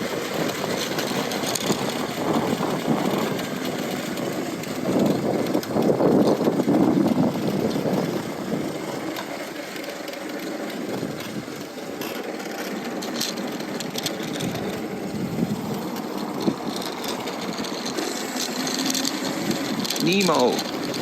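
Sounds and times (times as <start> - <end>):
e-bike motor running: 0.0 - 21.0.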